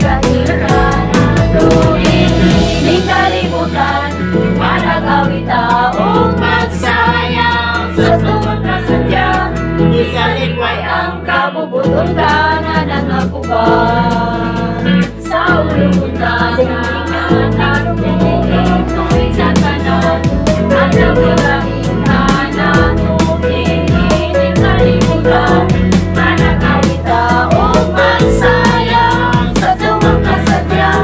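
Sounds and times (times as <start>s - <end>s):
held bass notes: 0.0s - 10.8s, 12.0s - 31.0s
voices singing: 0.0s - 31.0s.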